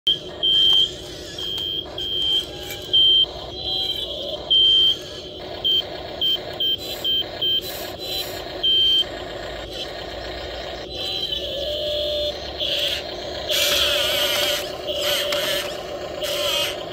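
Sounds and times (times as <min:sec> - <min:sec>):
high-pitched electronic beeps: 0:00.1 - 0:16.7
electric motor and gear whine: 0:00.1 - 0:16.9.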